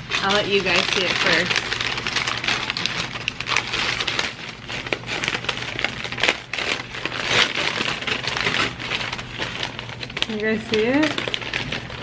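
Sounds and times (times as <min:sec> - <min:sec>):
paper wrapping rustling and crinkling: 0:00.0 - 0:12.0.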